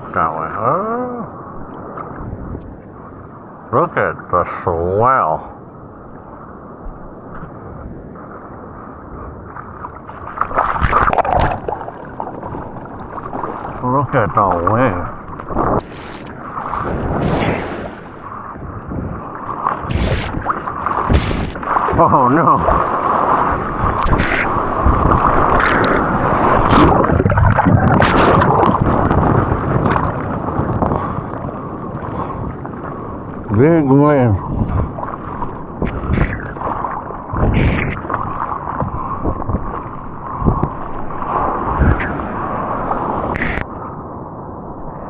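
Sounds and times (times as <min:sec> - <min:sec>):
rush of surf: 0:00.0 - 0:45.0
seawater splashing and sloshing: 0:06.3 - 0:43.7.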